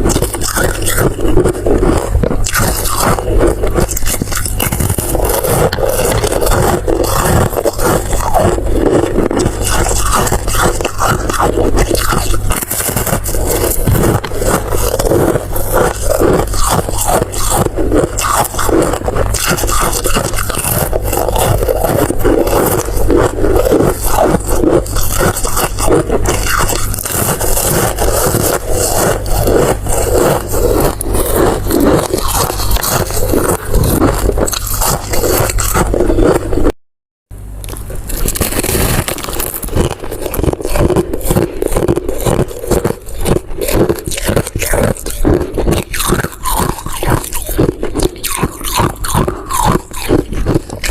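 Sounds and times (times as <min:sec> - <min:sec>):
close eating scraping and crackling: 0:00.0 - 0:36.8, 0:37.4 - 0:50.9
low steady hum: 0:00.0 - 0:50.9.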